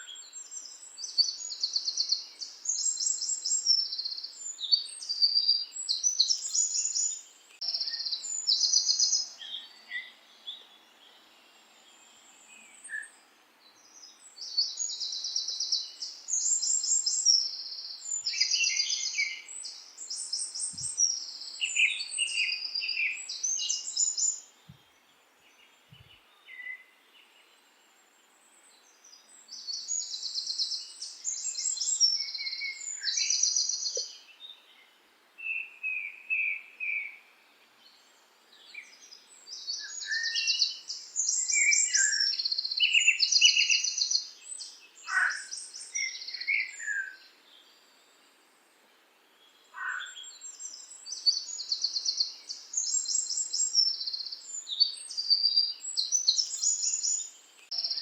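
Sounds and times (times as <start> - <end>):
faint steady hiss: 0.0 - 58.0
songbirds chirping trills: 0.0 - 58.0.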